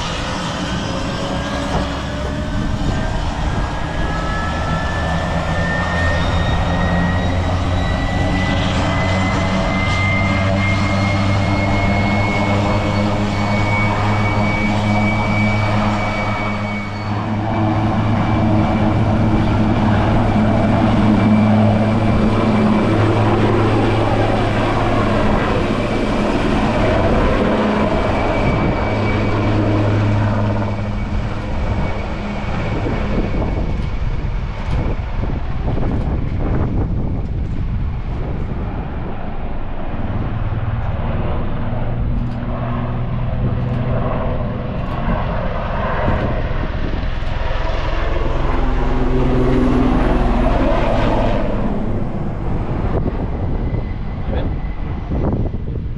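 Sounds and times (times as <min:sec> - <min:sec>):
helicopter engines and rotors: 0:00.0 - 0:55.9
high turbine whine: 0:00.0 - 0:55.9.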